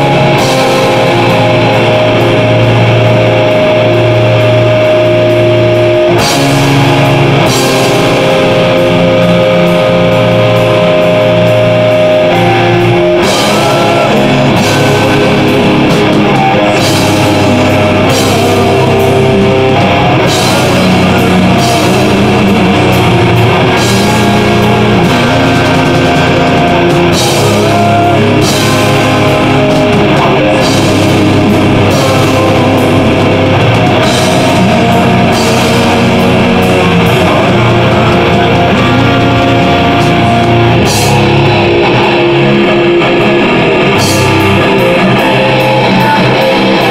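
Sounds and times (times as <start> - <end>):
metal band playing live: 0.0 - 46.9.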